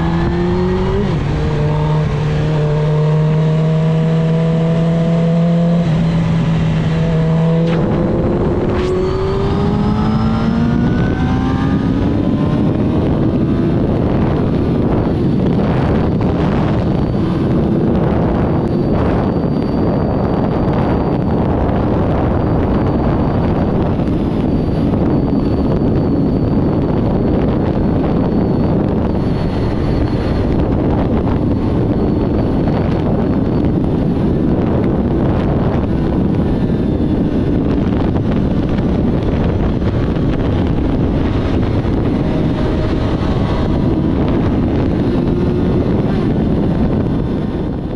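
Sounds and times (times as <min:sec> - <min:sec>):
motorcycle engine cruising: 0:00.0 - 0:47.9
wind noise on microphone: 0:00.0 - 0:47.9.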